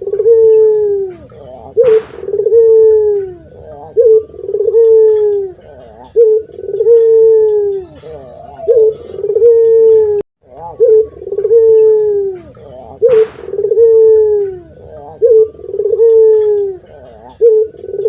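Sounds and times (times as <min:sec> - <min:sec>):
dove cooing loudly: 0:00.0 - 0:18.0.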